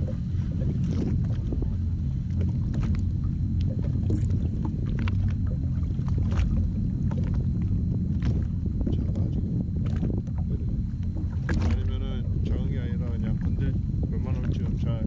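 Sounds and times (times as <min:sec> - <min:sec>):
jet ski low rumble: 0:00.0 - 0:15.0.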